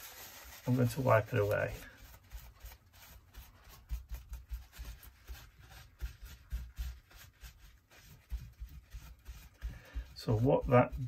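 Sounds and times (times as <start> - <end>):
tissue rubbing on glass bottle: 0.0 - 11.0.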